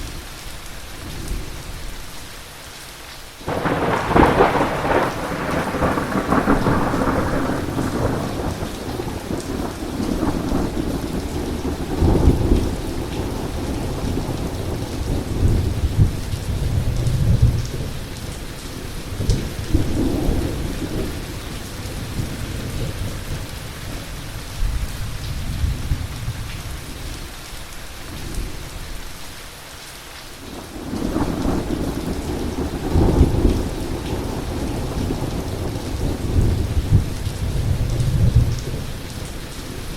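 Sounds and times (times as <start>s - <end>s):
heavy rain falling: 0.0s - 39.9s
thunder rumbling: 3.5s - 26.5s, 30.5s - 39.9s.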